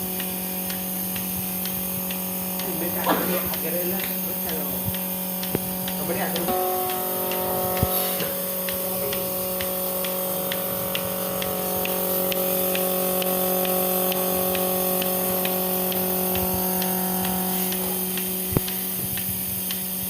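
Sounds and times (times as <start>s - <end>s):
pulsator clicking: 0.0s - 20.0s
vacuum pump motor humming: 0.0s - 20.0s.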